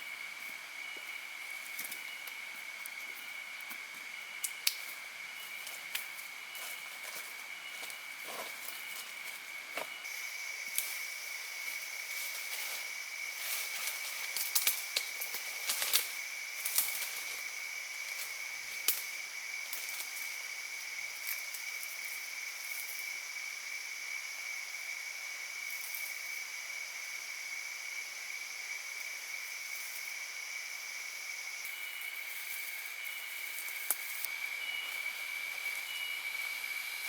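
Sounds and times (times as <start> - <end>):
faint hiss: 0.0 - 37.0
insect drone: 0.0 - 37.0.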